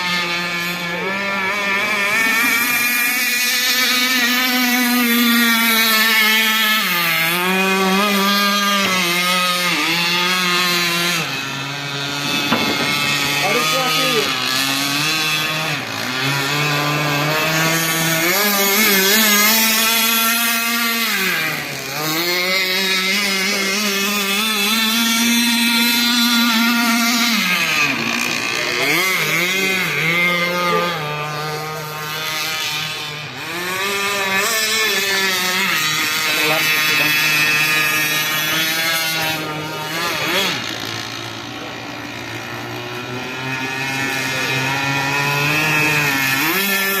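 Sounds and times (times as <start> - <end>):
model boat motor buzzing: 0.0 - 47.0.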